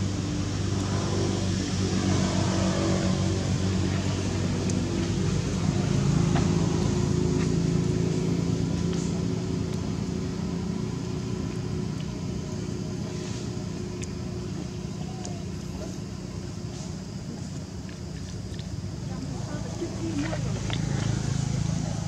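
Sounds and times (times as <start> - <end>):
engine running with low hum: 0.0 - 22.0.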